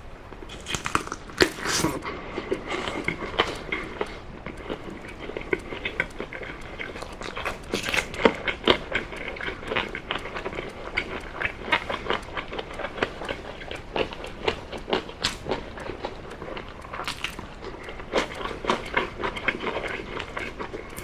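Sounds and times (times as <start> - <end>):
close chewing with mouth clicks: 0.3 - 21.0.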